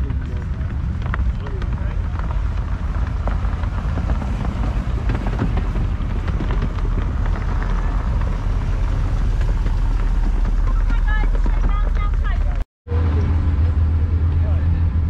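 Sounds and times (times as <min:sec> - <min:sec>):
car driving slowly past: 0:00.0 - 0:15.0.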